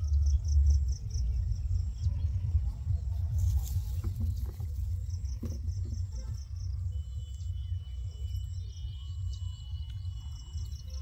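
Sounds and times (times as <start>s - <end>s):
constant low rumble: 0.0s - 11.0s
insects chirping: 0.0s - 11.0s.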